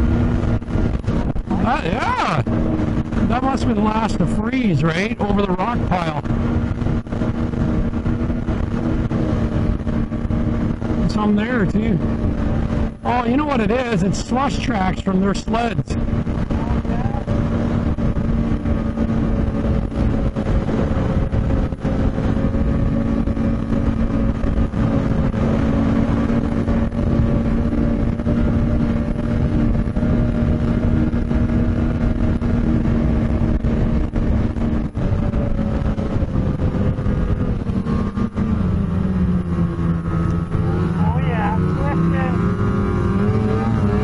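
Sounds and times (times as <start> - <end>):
rushing track and wind noise: 0.0 - 44.0
snowmobile engine drone: 0.0 - 44.0.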